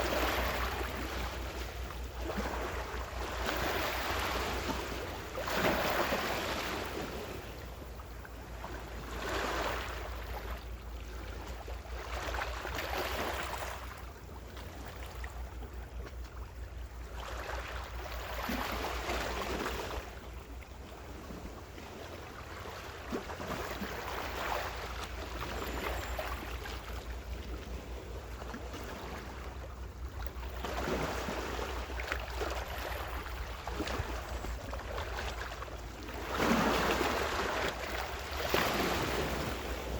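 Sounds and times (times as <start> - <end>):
ocean waves washing ashore: 0.0 - 14.1, 21.0 - 39.9.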